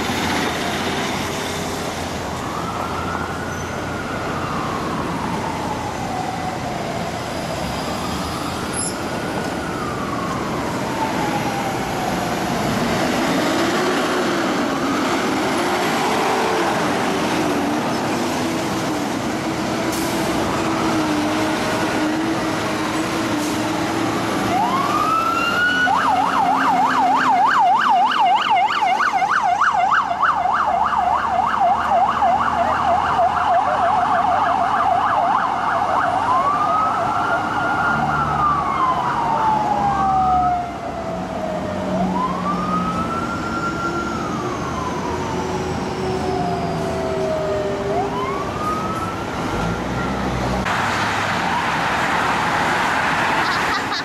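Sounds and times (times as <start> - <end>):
vehicle engines rumbling: 0.0 - 54.0
police sirens wailing and yelping: 2.0 - 54.0.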